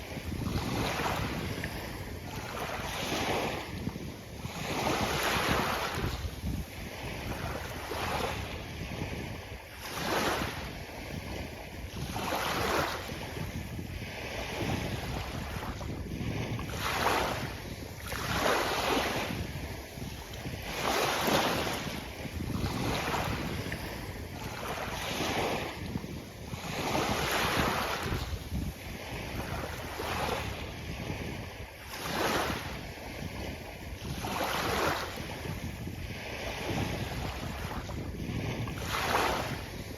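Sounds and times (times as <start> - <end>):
sea waves washing onto beach: 0.0 - 39.9
wind rumble on microphone: 0.0 - 39.9.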